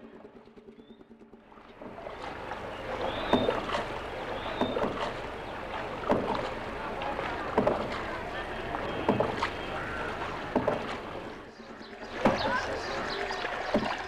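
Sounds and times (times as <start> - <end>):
oars splashing in water: 0.0 - 14.0.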